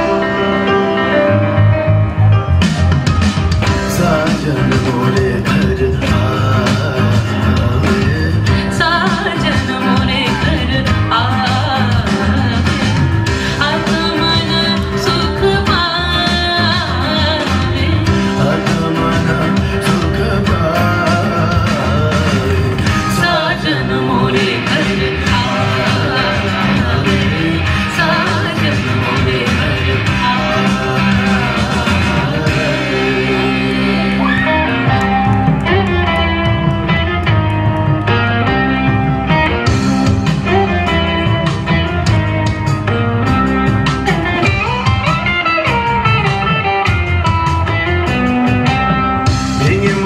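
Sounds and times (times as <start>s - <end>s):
instrumental accompaniment: 0.0s - 50.0s
music with steady beat: 0.0s - 50.0s.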